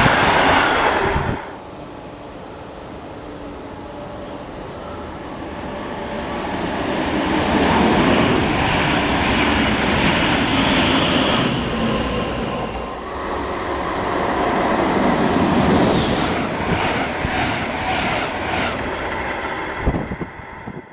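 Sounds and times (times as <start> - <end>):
train passing at speed: 0.0 - 20.9.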